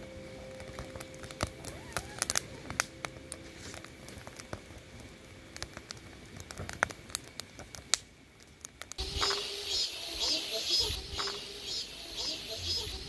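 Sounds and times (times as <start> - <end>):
campfire crackling: 0.0 - 13.0
sharp pops from burning logs: 0.1 - 11.8.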